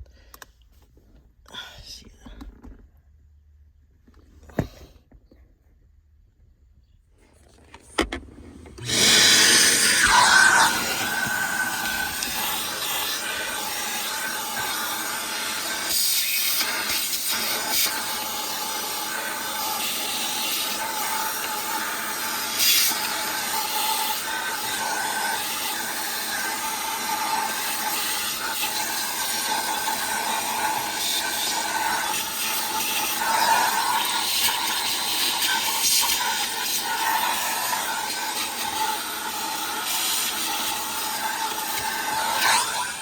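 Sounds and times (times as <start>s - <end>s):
small vacuum cleaner whining: 7.6s - 43.0s.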